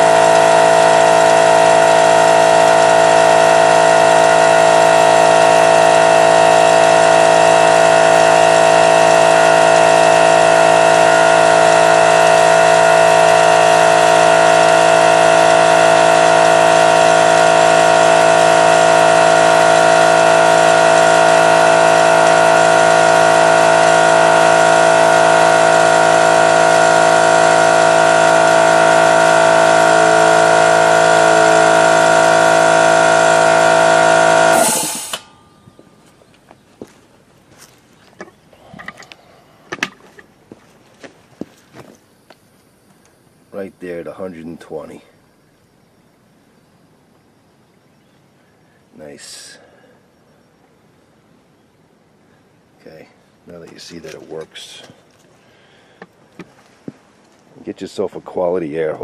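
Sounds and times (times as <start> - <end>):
air compressor running: 0.0 - 44.2, 49.0 - 50.0, 52.3 - 58.0.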